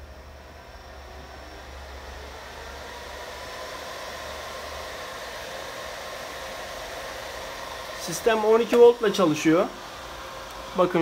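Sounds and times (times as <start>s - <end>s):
cooling fans whirring: 0.0s - 11.0s.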